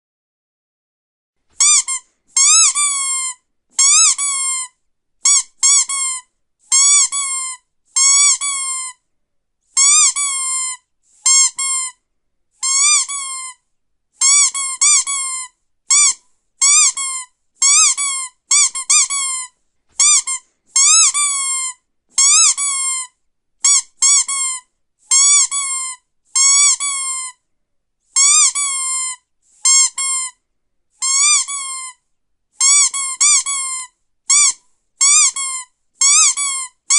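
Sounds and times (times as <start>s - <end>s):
squeaky dog toy squeaks: 1.5s - 9.0s, 9.7s - 12.0s, 12.6s - 13.6s, 14.2s - 27.4s, 28.1s - 30.4s, 31.0s - 32.0s, 32.6s - 36.9s.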